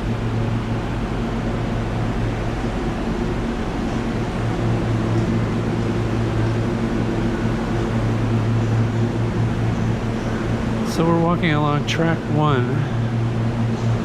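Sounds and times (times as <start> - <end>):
noisy hiss: 0.0 - 14.0
steady mechanical drone: 0.0 - 14.0.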